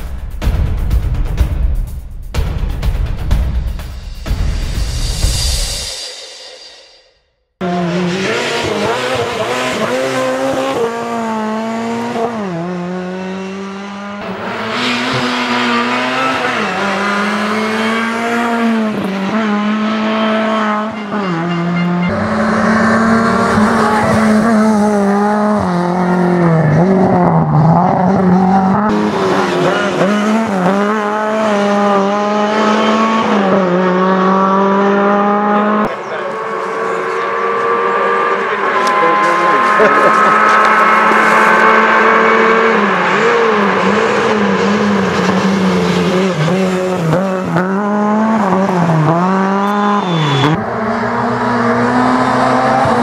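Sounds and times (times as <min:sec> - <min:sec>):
rally car engine revving: 0:07.6 - 0:53.0.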